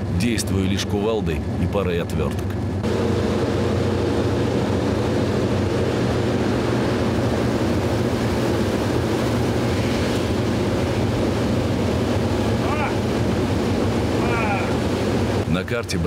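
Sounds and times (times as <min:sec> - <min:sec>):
radial aircraft engine droning: 0:00.0 - 0:16.0
air rushing through open door: 0:02.6 - 0:15.5.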